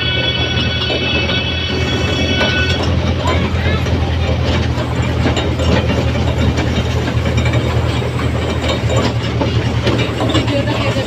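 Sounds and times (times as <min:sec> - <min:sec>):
rattling and clicking: 0:00.0 - 0:11.0
toy train engine drone: 0:00.0 - 0:11.0.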